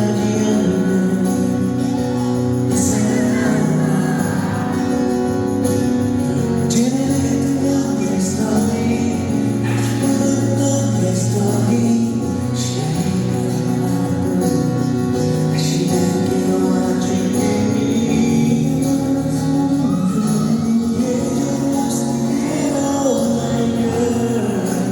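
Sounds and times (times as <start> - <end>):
live pop band with singer: 0.0 - 24.9.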